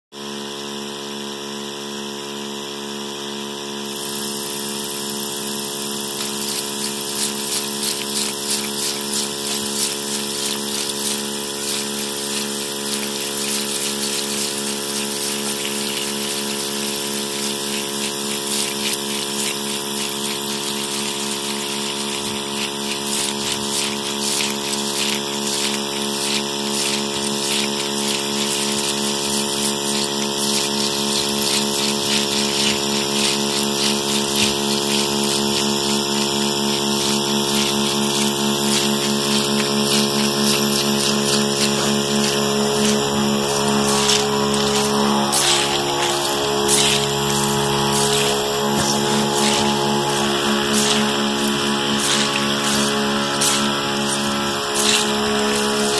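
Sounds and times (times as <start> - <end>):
bright hiss: 4.0 - 55.9
electronic drone: 4.0 - 55.9.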